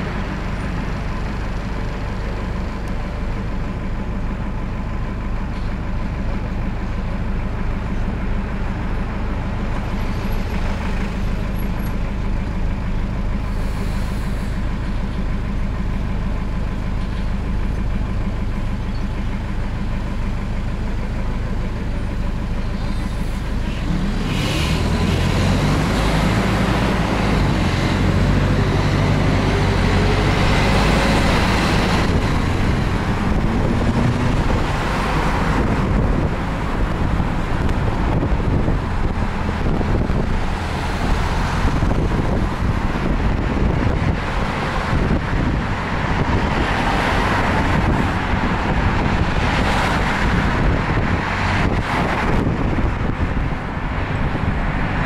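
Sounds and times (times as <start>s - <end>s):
bus engine humming: 0.0s - 55.0s
road noise: 0.0s - 55.0s.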